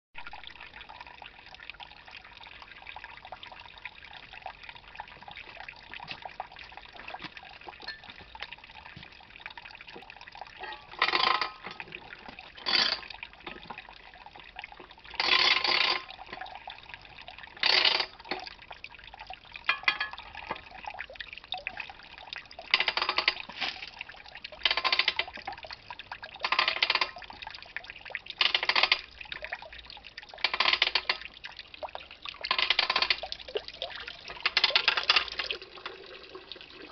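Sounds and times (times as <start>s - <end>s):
juice trickling into plastic tub: 0.2s - 36.9s.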